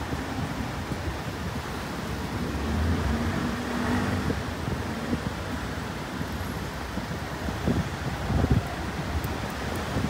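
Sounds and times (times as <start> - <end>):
street traffic hum: 0.0 - 10.0.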